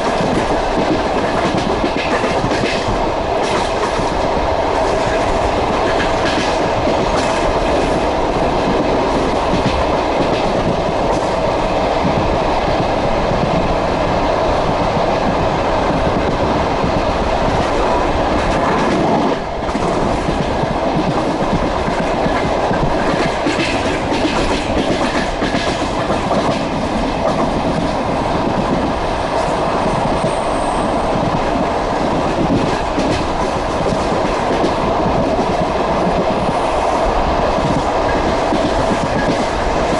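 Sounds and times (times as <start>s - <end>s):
train carriage rumble: 0.0s - 39.9s.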